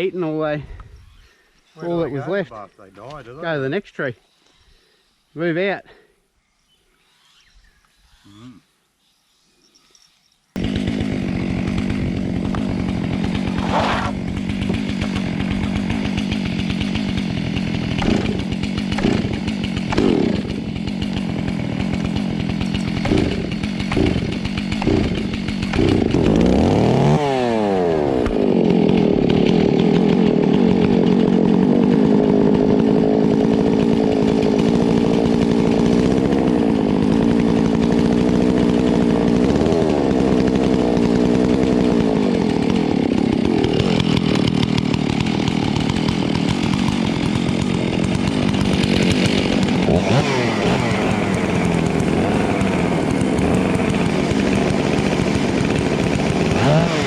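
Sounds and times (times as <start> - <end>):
chainsaw cutting wood: 10.6 - 57.0.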